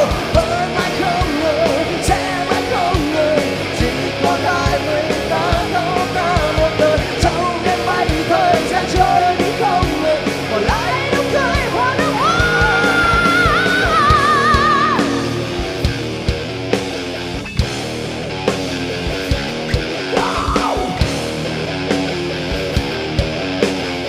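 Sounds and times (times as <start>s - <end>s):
lead guitar held bending notes: 0.0s - 24.0s
rock band playing live: 0.0s - 24.0s.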